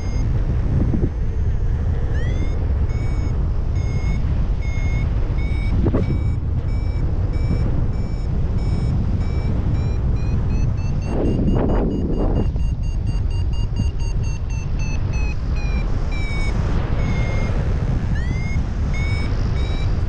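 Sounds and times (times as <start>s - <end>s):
variometer short beeps: 0.0s - 20.0s
wind rumble on microphone: 0.0s - 20.0s.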